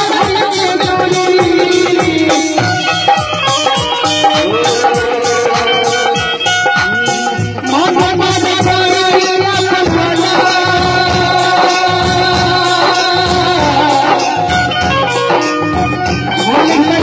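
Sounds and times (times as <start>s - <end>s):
loud stage-show music with beat: 0.0s - 17.0s.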